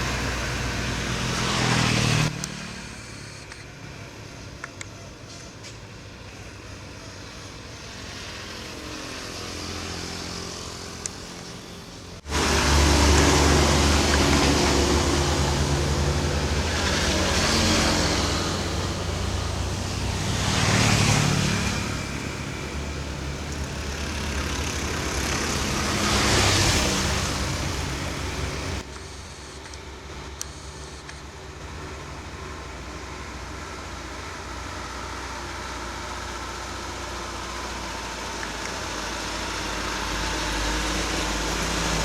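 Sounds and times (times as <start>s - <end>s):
truck engines labouring: 0.0s - 42.0s.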